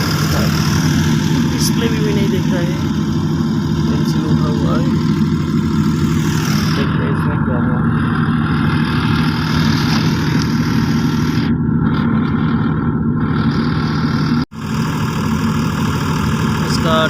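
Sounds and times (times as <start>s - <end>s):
electrical machinery humming: 0.0s - 17.0s.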